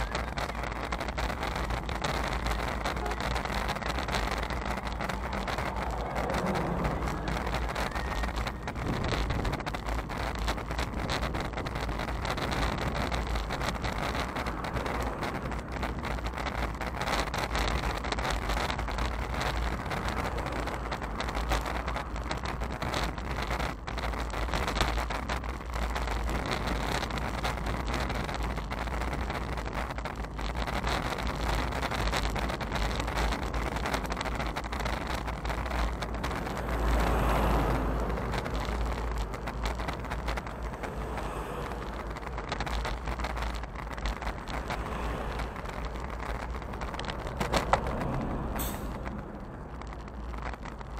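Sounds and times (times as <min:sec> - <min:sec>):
bicycle tyre road noise: 0:00.0 - 0:50.9
wind noise on microphone: 0:00.0 - 0:50.9.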